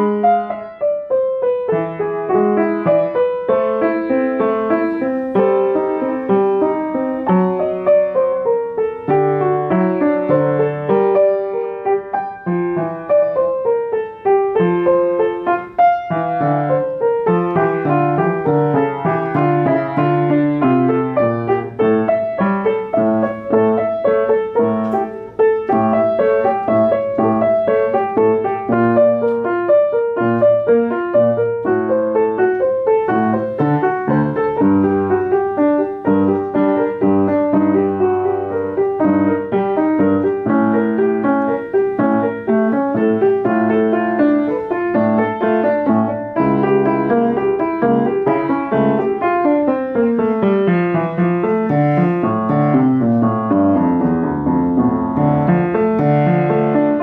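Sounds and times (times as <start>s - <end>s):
flowing piano piece: 0.0s - 57.0s.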